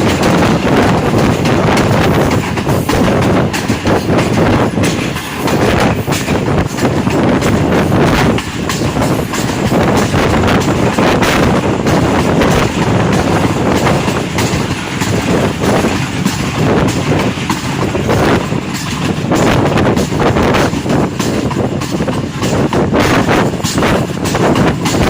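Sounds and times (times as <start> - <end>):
train clattering on tracks: 0.0 - 25.0
wheels clicking on rails: 0.0 - 25.0.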